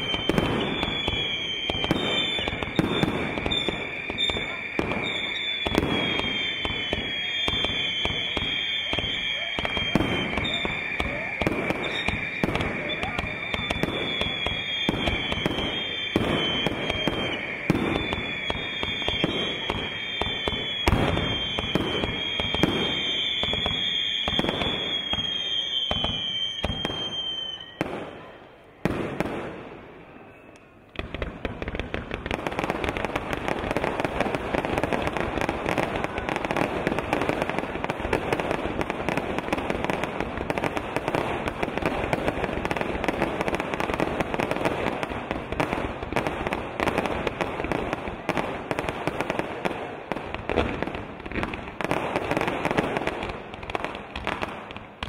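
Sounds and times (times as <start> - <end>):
firework whistles: 0.0 - 48.5
firework bangs: 0.0 - 55.0
firework crackling barrage: 0.0 - 55.0.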